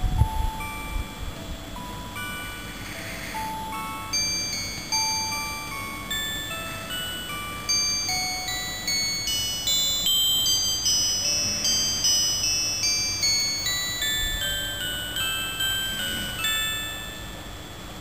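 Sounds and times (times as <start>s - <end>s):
bell-like chiming music: 0.0s - 17.8s.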